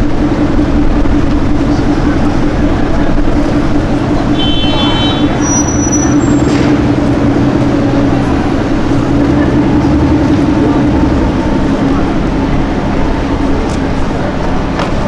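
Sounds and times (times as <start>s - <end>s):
car engine idling: 0.0s - 15.0s
street traffic: 0.0s - 15.0s.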